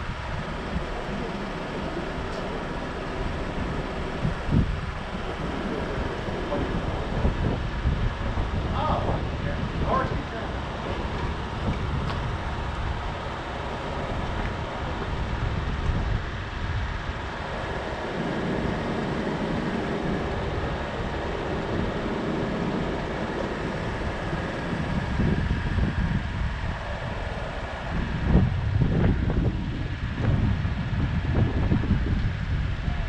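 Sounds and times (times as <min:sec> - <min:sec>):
car engine low rumble: 0:00.0 - 0:33.0
road and wind noise: 0:00.0 - 0:33.0.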